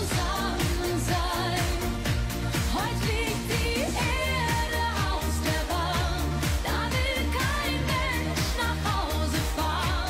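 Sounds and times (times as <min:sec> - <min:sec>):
woman singing pop song: 0:00.0 - 0:10.0.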